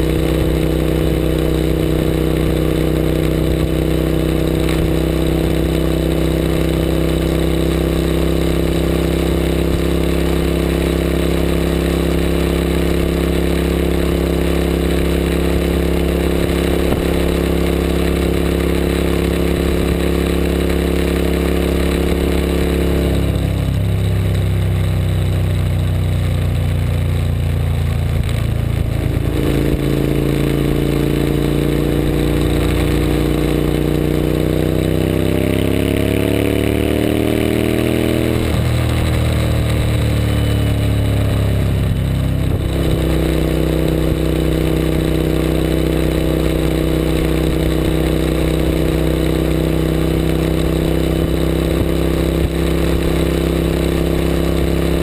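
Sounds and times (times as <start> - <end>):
motorcycle engine at speed: 0.0 - 55.0
wind and road noise: 0.0 - 55.0.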